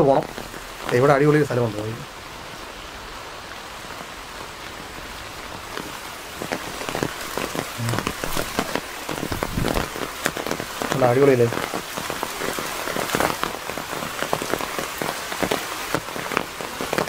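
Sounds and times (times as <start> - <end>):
close raindrops pattering: 0.0 - 17.0
steady rain hiss: 0.0 - 17.0.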